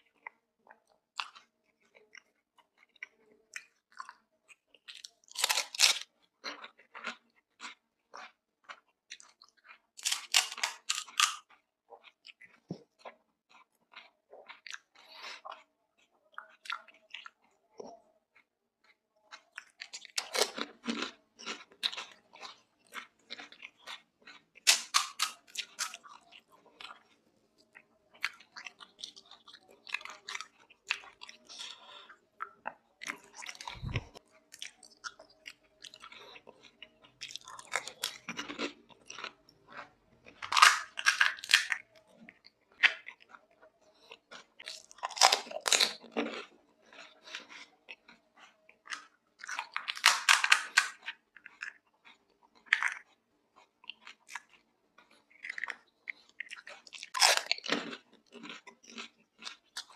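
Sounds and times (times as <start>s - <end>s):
crunching and chewing crisp shells: 0.0s - 59.9s.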